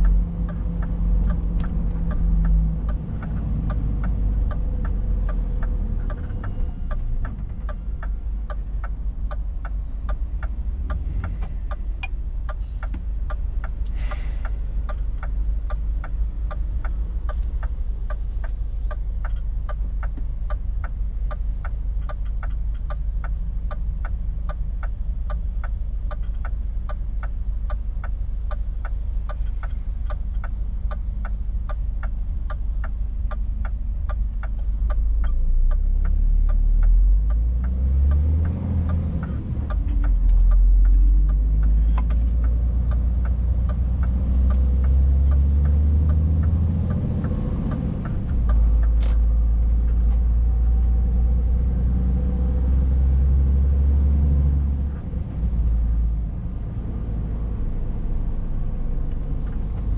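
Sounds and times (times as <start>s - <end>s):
diesel truck engine: 0.0s - 59.9s
turn signal ticking: 0.0s - 59.9s.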